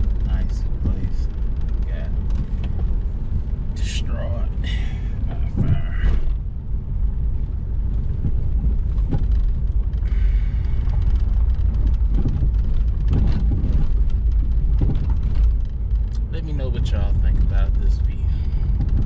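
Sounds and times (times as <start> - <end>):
car rumbling over gravel: 0.0 - 19.0.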